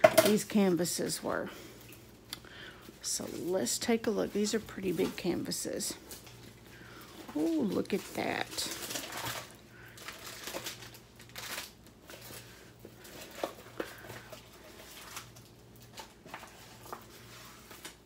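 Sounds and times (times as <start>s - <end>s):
plastic film crinkling: 3.0s - 18.0s.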